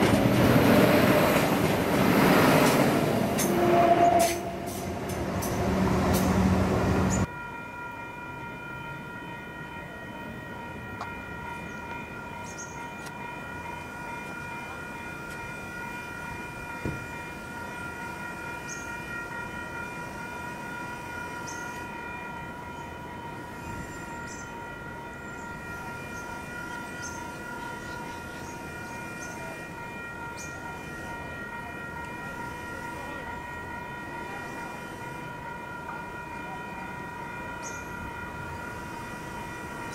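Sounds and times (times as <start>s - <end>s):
railcar passing close by: 0.0s - 39.9s.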